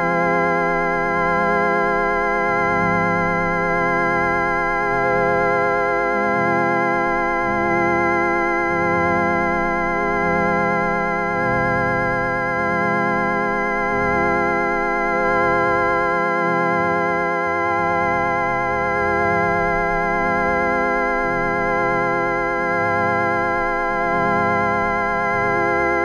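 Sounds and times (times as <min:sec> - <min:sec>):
organ-like electronic drone: 0:00.0 - 0:26.0.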